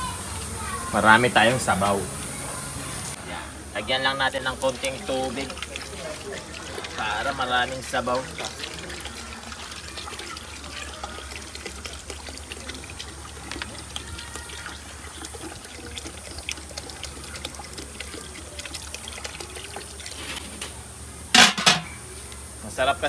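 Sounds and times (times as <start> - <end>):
water pouring into a pot: 3.8 - 22.5.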